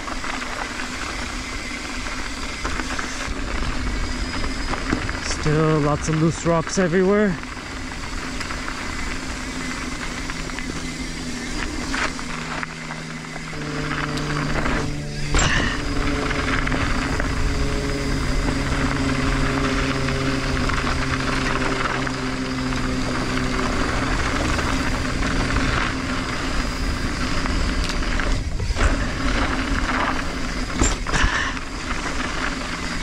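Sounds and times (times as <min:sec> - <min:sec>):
tyres on gravel: 0:00.0 - 0:33.0.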